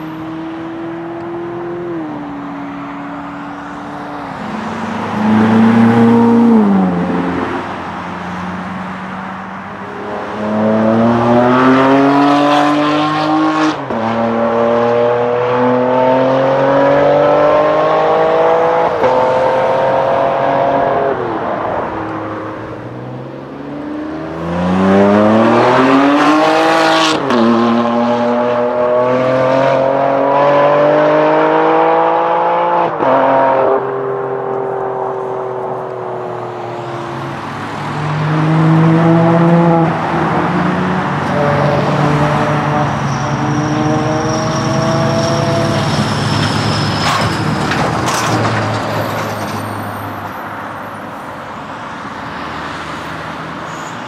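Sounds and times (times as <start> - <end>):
sports car engines accelerating: 0.0 - 47.0.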